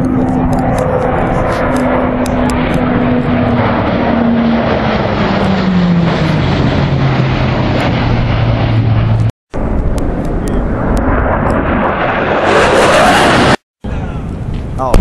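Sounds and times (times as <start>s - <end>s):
turboprop aircraft passing: 0.0s - 13.6s.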